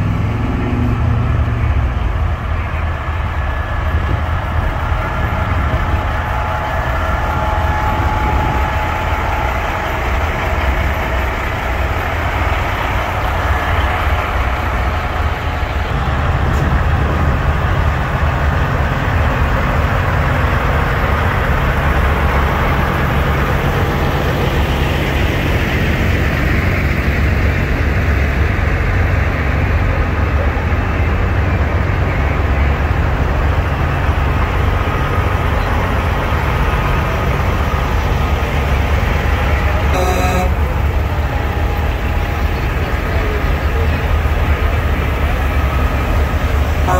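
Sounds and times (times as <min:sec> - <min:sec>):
diesel truck engine rumbling: 0:00.0 - 0:46.9.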